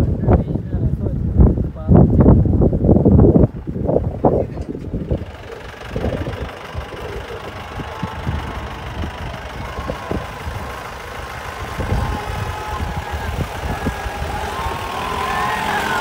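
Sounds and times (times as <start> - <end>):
jeep engine running: 2.2 - 16.0.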